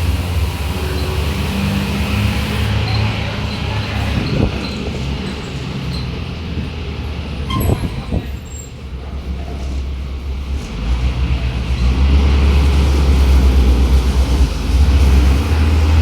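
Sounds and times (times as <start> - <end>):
diesel bus engine humming: 0.0 - 16.0.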